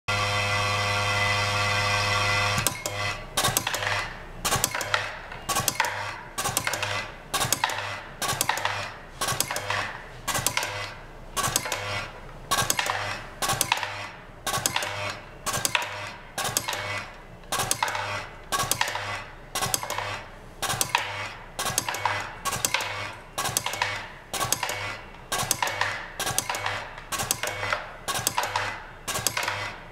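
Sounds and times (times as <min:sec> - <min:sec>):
vibratory bowl feeder humming: 0:00.1 - 0:29.9.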